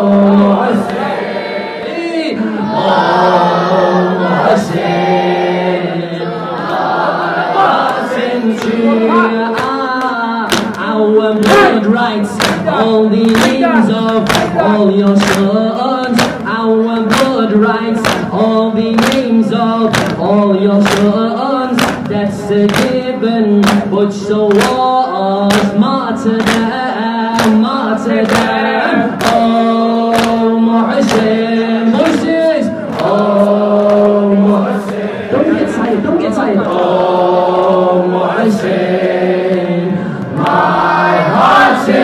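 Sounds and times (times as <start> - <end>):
man singing a lament: 0.0 - 1.0, 1.7 - 6.5, 7.6 - 42.0
congregation singing in chorus: 0.0 - 42.0
rhythmic chest beating strikes: 7.7 - 42.0.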